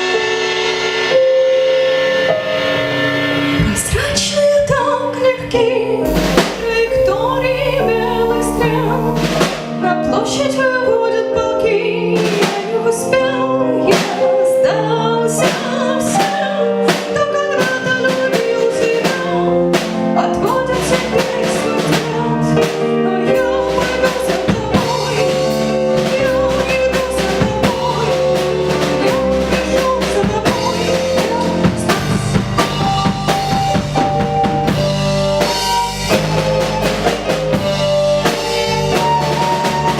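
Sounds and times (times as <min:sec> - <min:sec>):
drum kit beat: 0:02.3 - 0:10.1, 0:15.4 - 0:39.9
woman singing: 0:03.6 - 0:34.8, 0:35.4 - 0:39.9.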